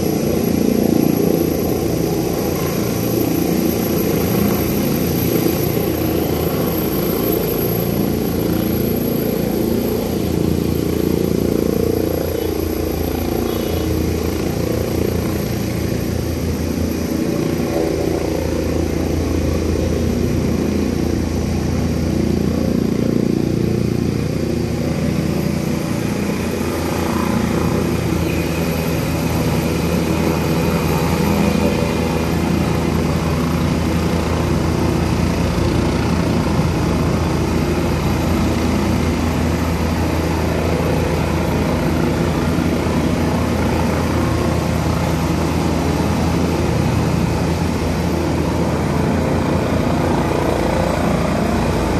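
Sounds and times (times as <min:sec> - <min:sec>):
helicopter rotor and engine: 0:00.0 - 0:51.9.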